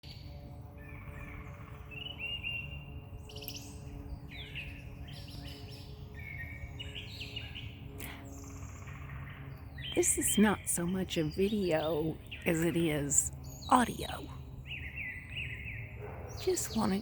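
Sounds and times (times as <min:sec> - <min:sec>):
songbirds chirping and chattering: 0:00.1 - 0:17.0.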